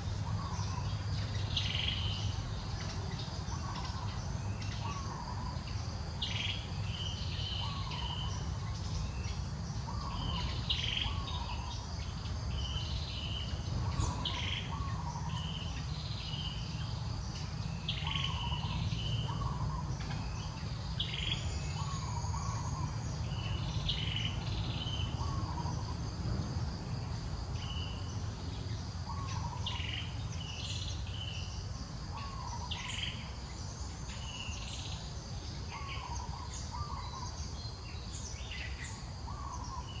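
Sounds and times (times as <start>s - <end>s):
birds chirping: 0.0s - 26.4s, 27.0s - 40.0s
high insect drone: 0.0s - 40.0s.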